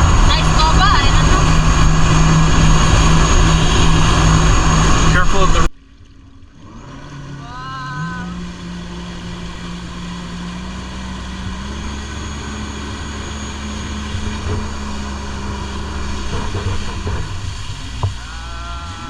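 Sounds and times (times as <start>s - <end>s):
jet ski engine drone: 0.0s - 19.0s
rushing water noise: 0.0s - 19.0s.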